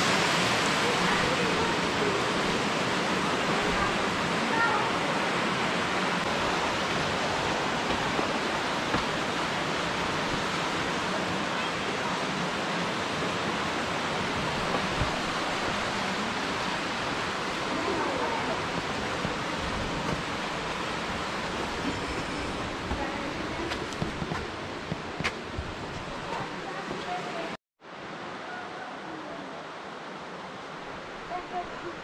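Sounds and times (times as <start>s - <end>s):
rushing water: 0.0s - 32.0s.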